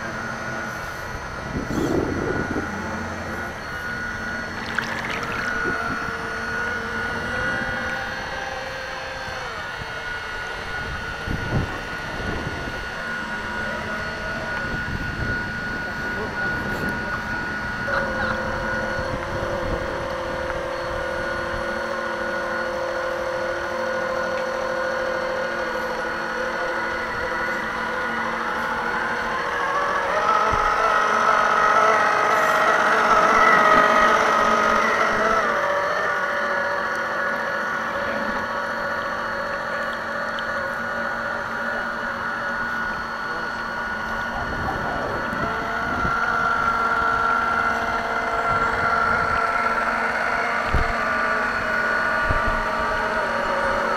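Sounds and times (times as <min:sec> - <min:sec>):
model boat motors whining: 0:00.0 - 0:53.9
wind: 0:00.0 - 0:53.9
water: 0:02.6 - 0:12.1, 0:12.8 - 0:53.9.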